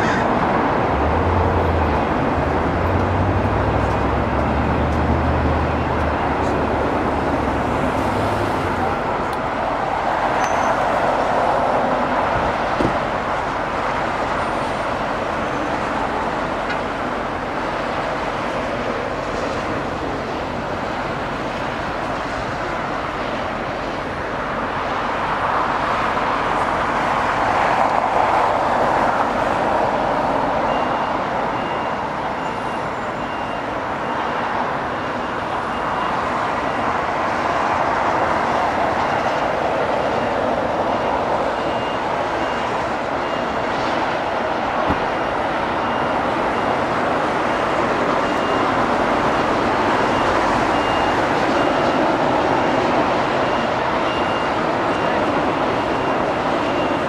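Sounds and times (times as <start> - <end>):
jet engines rushing hum: 0.0 - 57.0.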